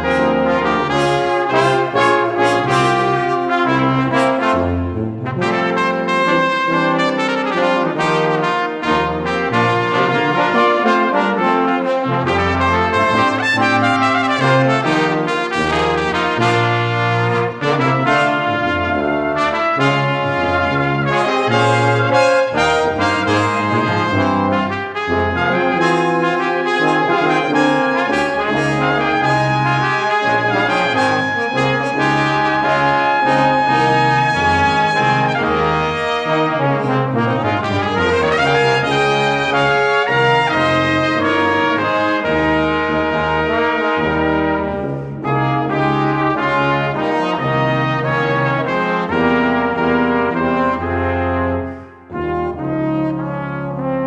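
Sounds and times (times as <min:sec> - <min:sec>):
brass music trumpets and trombones: 0:00.0 - 0:54.0.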